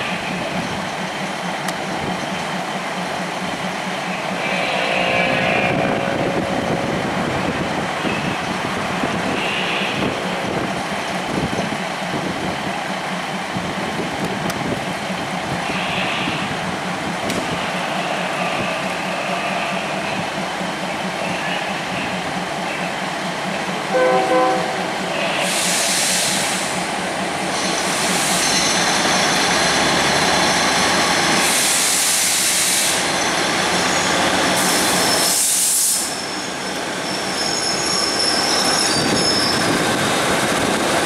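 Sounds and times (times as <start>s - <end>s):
locomotive engine drone: 0.0s - 41.0s
rolling rail noise: 0.0s - 41.0s.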